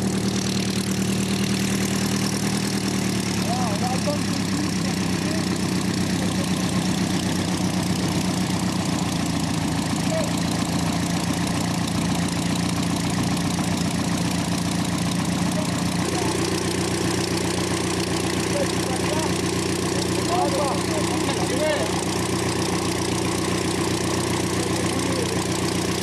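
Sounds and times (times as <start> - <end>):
biplane piston engine idling: 0.0 - 26.0.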